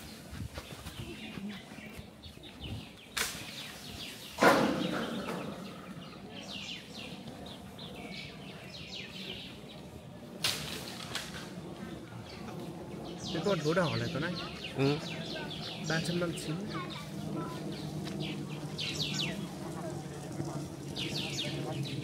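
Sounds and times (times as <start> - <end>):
small birds chirping and singing: 0.0 - 22.0.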